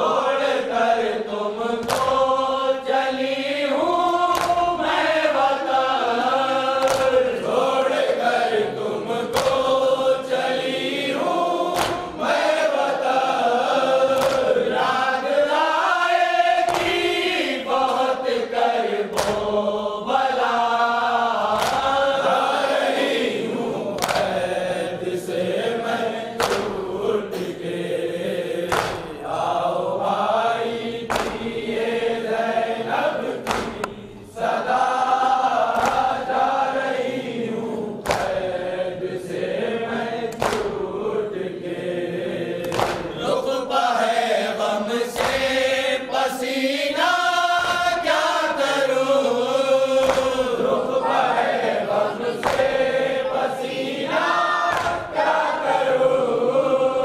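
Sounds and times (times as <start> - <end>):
men chanting in unison: 0.0 - 57.0
person reciting into a microphone: 0.0 - 57.0.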